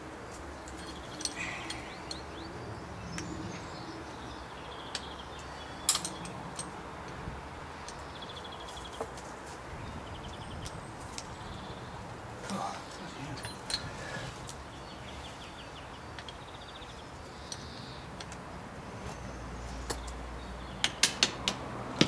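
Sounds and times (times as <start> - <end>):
birds chirping: 0.0 - 6.7, 7.7 - 21.4.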